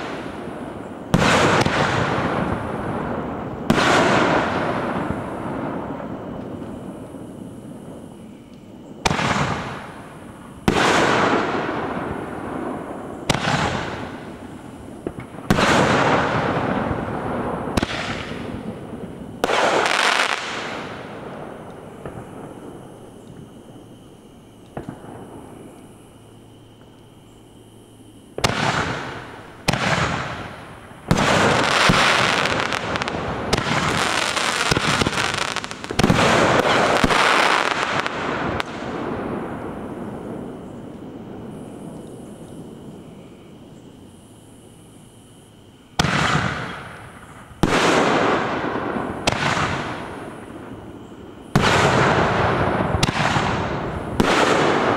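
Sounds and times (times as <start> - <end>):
fireworks crackling: 0.0 - 23.8, 28.3 - 43.0, 46.0 - 54.9
fireworks bangs: 0.0 - 23.9, 24.6 - 25.8, 28.3 - 43.0, 46.0 - 54.9.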